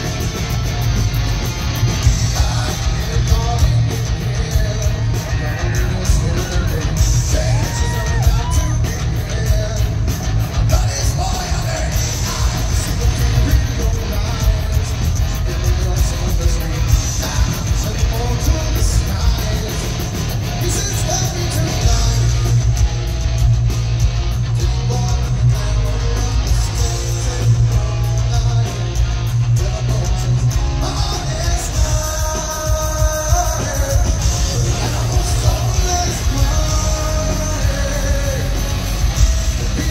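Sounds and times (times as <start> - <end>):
heavy metal band playing: 0.0 - 39.9
man singing: 2.0 - 22.8, 24.5 - 39.9.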